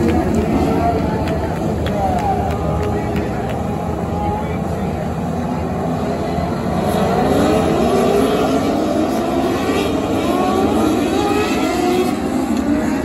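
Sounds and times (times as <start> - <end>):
high-revving racing engines: 0.0 - 13.0.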